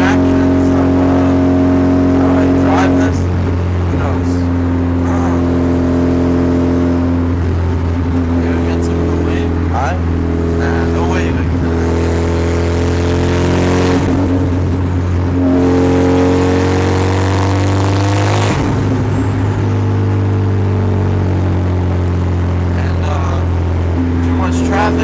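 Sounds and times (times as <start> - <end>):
car engine accelerating: 0.0 - 25.0
rush of noise: 0.0 - 25.0.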